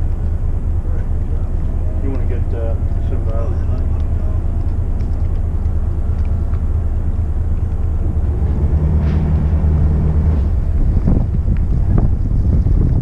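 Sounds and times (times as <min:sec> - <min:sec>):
boat diesel engines rumbling: 0:00.0 - 0:13.0
steady hum: 0:00.0 - 0:13.0.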